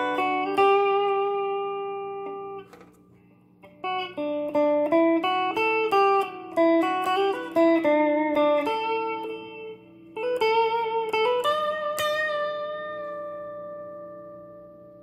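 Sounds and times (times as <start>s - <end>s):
electric guitar note ringing: 0.0s - 15.0s
electric guitar picked melody: 0.0s - 15.0s.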